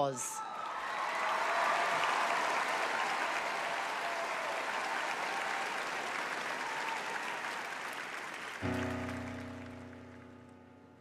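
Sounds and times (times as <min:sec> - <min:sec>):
audience applauding: 0:00.4 - 0:10.6.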